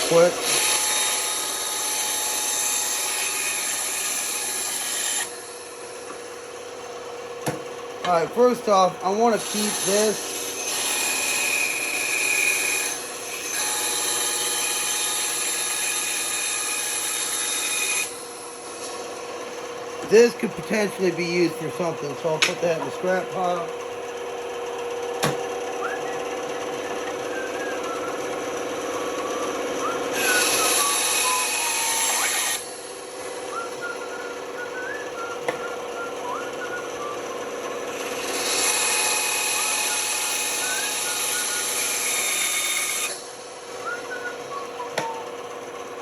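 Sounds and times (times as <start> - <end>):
band saw cutting wood: 0.0 - 46.0.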